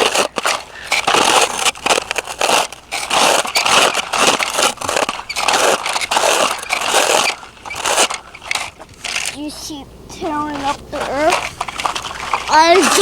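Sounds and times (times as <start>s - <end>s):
toy digger scraping through dirt: 0.0s - 9.6s, 10.2s - 13.0s.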